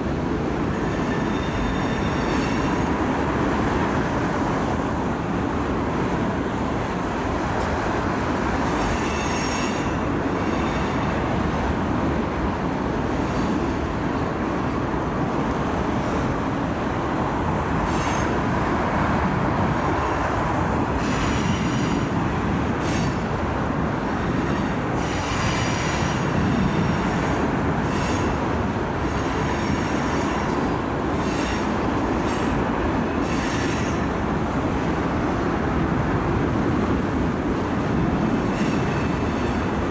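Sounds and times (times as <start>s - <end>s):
train cars rumbling on rails: 0.0s - 39.9s.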